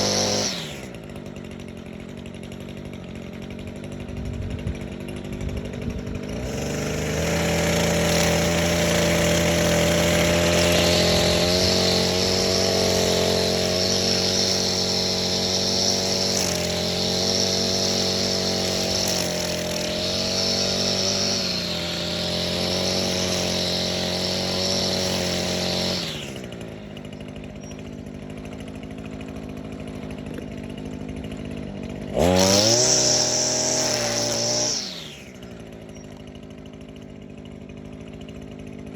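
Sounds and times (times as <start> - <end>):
string trimmer engine running: 0.0 - 38.9.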